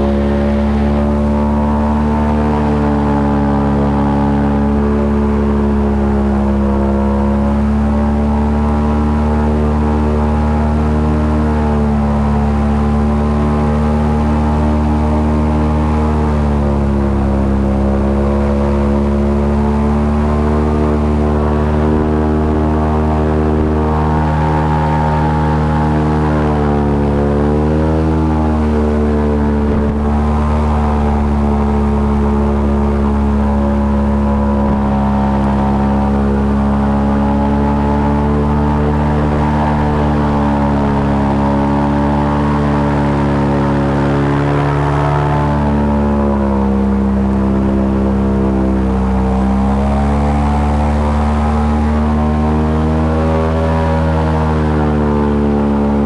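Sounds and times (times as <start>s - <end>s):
airboat engine and propeller drone: 0.0s - 56.0s.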